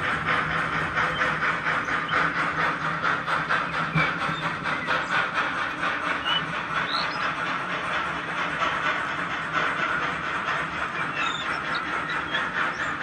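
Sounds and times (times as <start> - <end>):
model train rhythmic clatter: 0.0 - 13.0.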